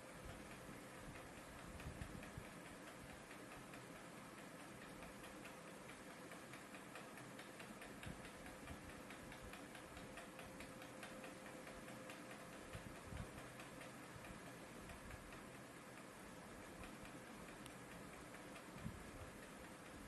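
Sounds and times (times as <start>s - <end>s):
light regular ticking: 0.2s - 20.0s.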